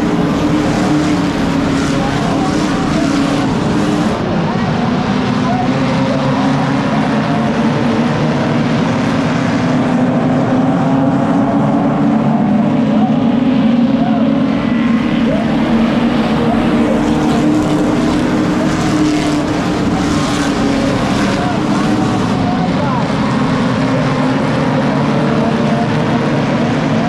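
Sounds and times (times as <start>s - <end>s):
racing car engines droning: 0.0s - 27.0s.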